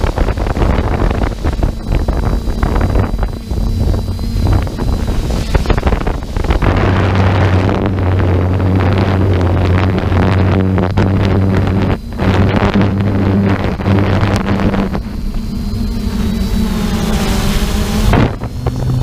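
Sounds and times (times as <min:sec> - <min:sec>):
low engine drone: 0:00.0 - 0:19.0
wind buffeting microphone: 0:00.0 - 0:19.0.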